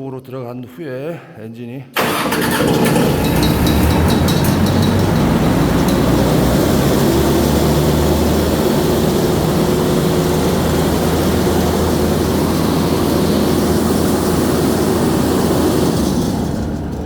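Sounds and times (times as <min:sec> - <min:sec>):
fire pump engine running: 0:02.0 - 0:17.0.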